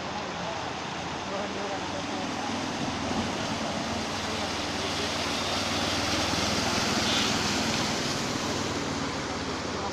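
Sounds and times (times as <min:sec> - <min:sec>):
rainwater rushing: 0:00.0 - 0:09.9.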